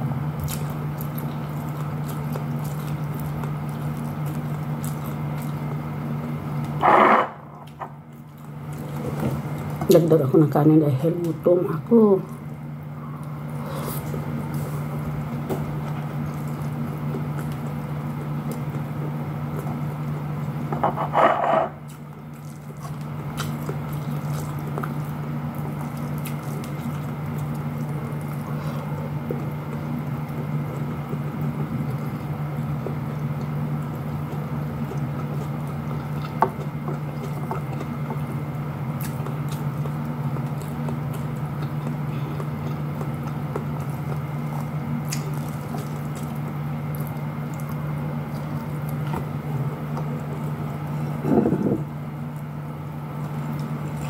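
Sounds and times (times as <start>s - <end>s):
steady low hum: 0.0s - 54.0s
wet chewing: 0.4s - 54.0s.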